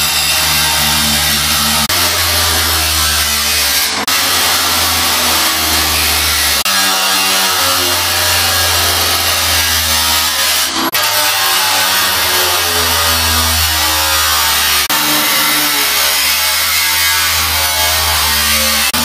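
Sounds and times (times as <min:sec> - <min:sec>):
angle grinder cutting metal: 0:00.0 - 0:19.0.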